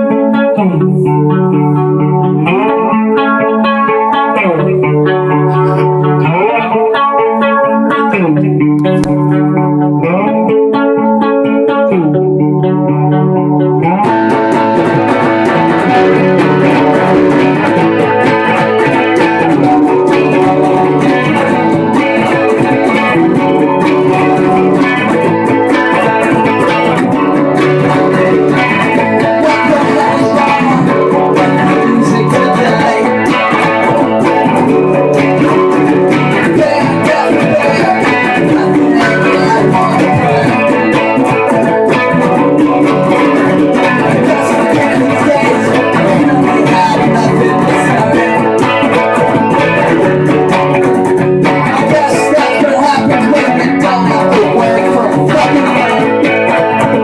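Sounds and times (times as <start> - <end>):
guitar riff: 0.0 - 57.0.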